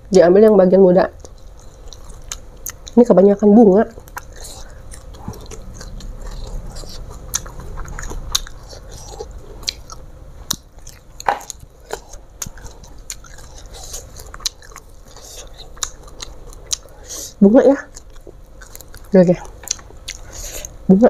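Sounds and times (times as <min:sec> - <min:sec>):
chewing crunchy leaves: 0:01.2 - 0:20.8.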